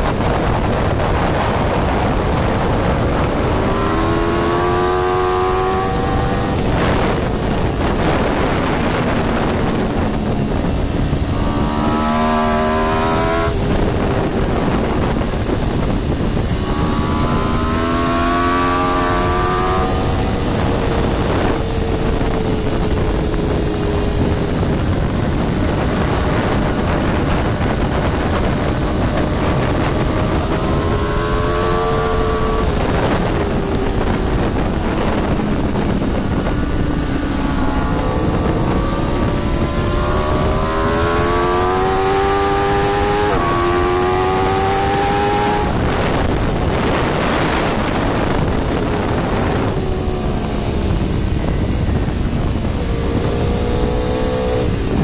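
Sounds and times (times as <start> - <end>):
motorcycle engine revving: 0.0 - 55.0
wind rush on microphone: 0.0 - 55.0.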